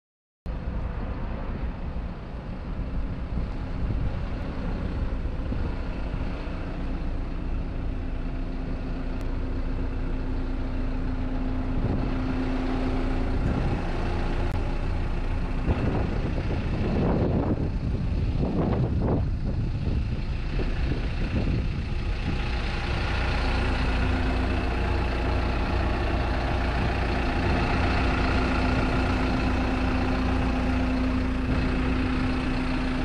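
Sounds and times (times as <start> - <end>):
excavator diesel engine idling: 0.5 - 33.0.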